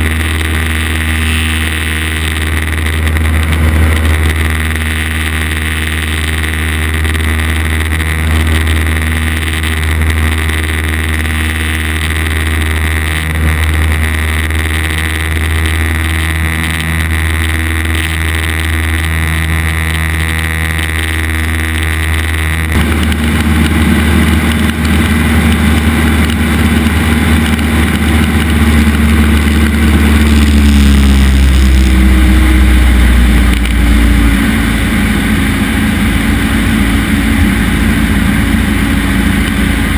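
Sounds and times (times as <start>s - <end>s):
propeller plane engine from cabin: 0.0s - 39.9s.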